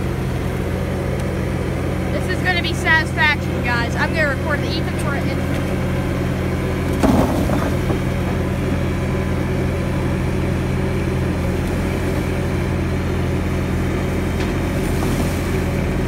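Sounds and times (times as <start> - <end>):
loader engine running: 0.0 - 16.0.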